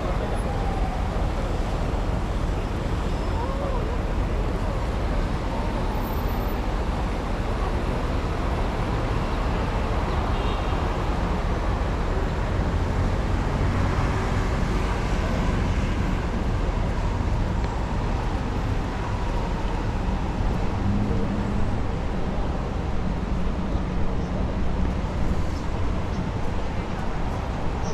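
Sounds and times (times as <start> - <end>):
rumbling city traffic: 0.0 - 27.9.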